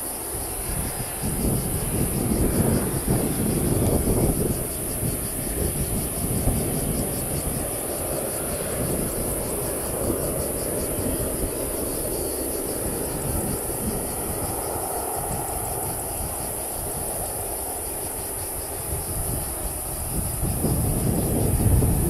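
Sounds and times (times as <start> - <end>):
distant jet engine rumble: 0.0 - 22.0
high insect buzz: 0.0 - 22.0.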